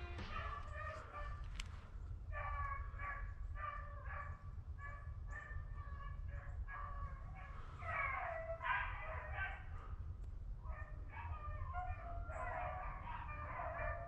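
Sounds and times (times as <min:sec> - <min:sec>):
dogs baying faintly: 0:00.0 - 0:14.0.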